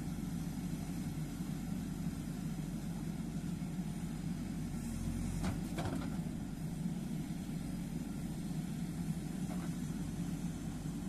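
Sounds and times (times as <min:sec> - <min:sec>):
backhoe digging: 0:00.0 - 0:11.0
diesel engine running: 0:00.0 - 0:11.0.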